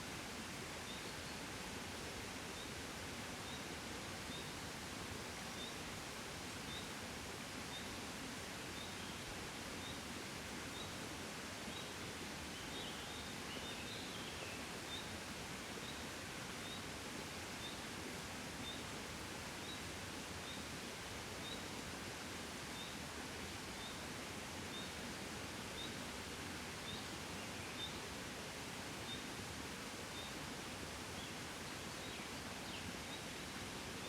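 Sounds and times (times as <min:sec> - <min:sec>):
gentle wind hissing: 0:00.0 - 0:34.0.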